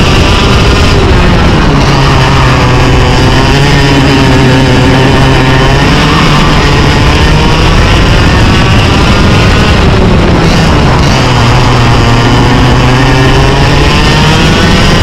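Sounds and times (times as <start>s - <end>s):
kart engine at high revs: 0.0s - 15.0s.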